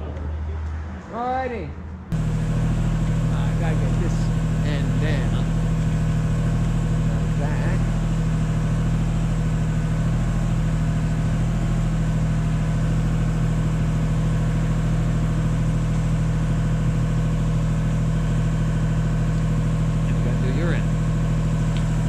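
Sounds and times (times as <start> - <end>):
vehicle engine idling: 1.6 - 22.0.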